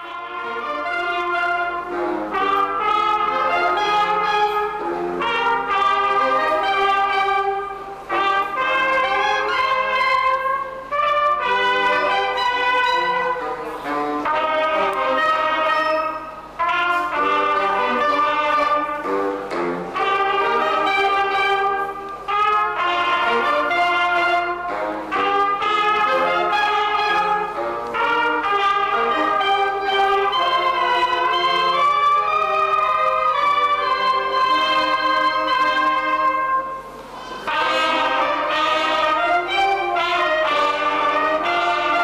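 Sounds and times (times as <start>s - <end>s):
brass band music: 0.0s - 42.0s.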